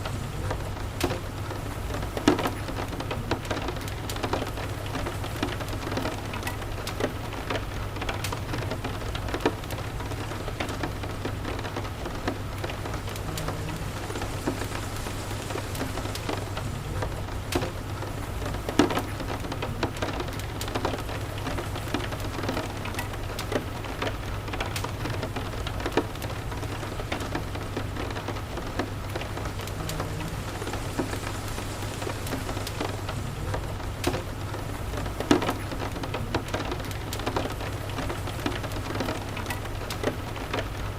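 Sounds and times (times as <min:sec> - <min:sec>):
steady rain falling: 0:00.0 - 0:40.9
wood fire crackling: 0:00.0 - 0:40.9.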